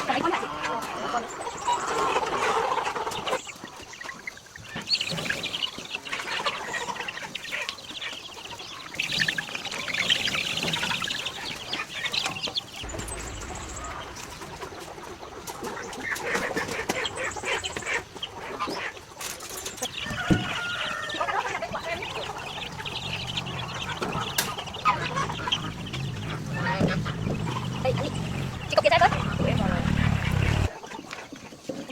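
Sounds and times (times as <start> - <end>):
chickens clucking: 0.0 - 31.9.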